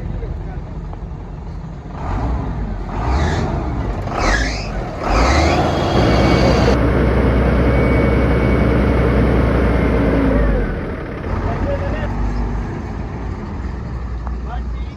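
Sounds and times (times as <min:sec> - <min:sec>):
heavy truck engine running: 0:00.3 - 0:14.5.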